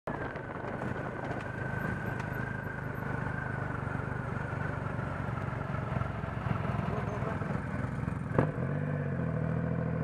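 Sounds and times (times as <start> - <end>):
motorcycle engine running: 0.1 - 10.0.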